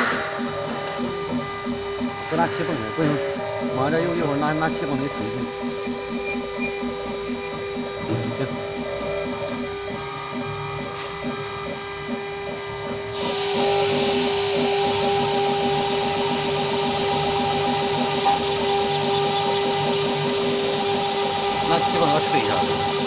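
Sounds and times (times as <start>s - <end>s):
router spindle whining: 0.0s - 23.0s.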